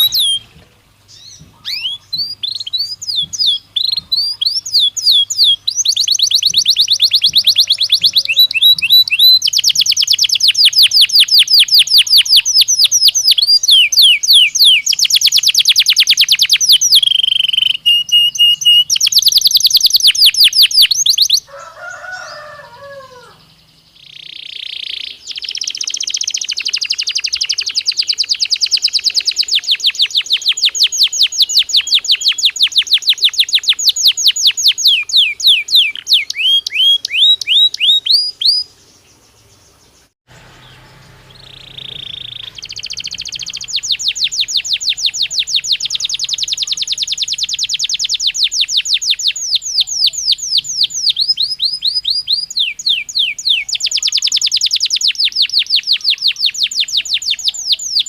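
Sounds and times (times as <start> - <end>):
canary trilling song: 0.0 - 58.0.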